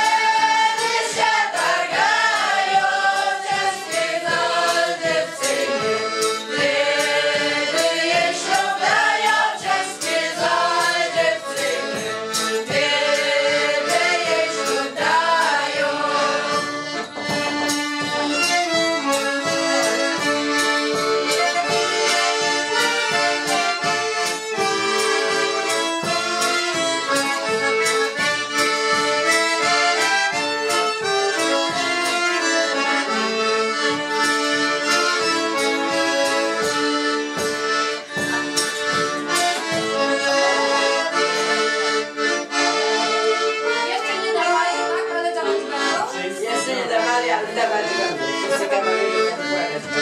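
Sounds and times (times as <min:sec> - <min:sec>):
frame drum beat: 0:00.0 - 0:43.9
accordions playing dance tune: 0:00.0 - 0:50.0
fiddle playing: 0:00.0 - 0:50.0.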